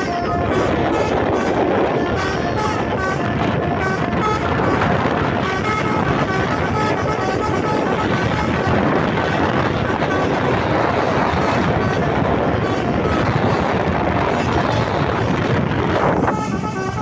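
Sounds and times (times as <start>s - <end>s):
truck engine rumble: 0.0s - 17.0s
wind buffeting microphone: 0.0s - 17.0s.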